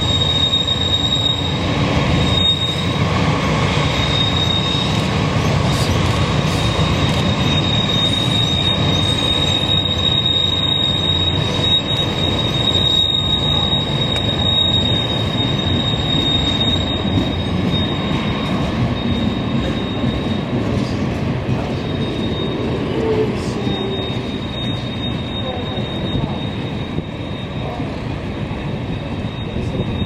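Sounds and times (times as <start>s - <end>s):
train low rumble: 0.0s - 30.0s
train wheels squealing: 0.0s - 30.0s.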